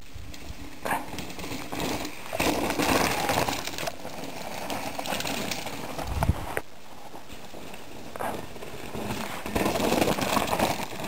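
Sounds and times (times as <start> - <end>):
bike rattling: 0.0 - 11.0
tyres crunching on stones: 0.2 - 11.0.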